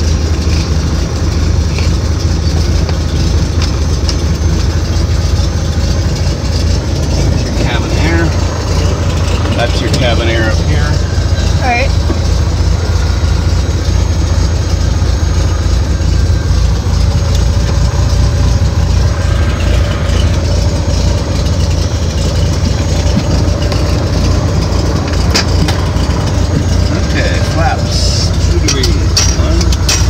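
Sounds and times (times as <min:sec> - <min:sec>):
propeller plane engine drone: 0:00.0 - 0:30.0.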